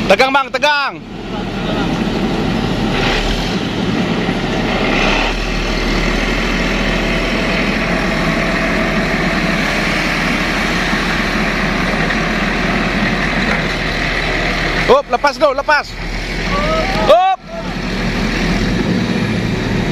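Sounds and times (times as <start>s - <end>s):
heavy diesel engines under load: 0.0s - 19.9s.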